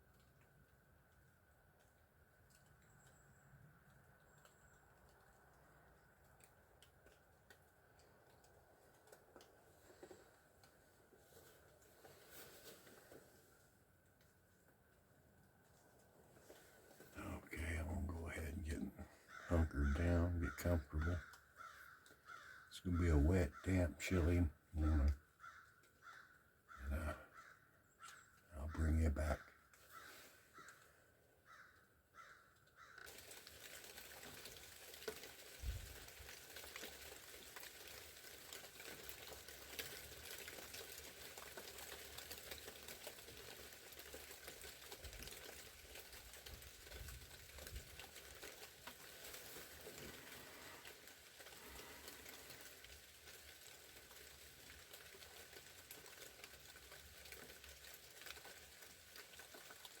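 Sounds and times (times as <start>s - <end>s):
rain and ice dripping: 0.0s - 60.0s.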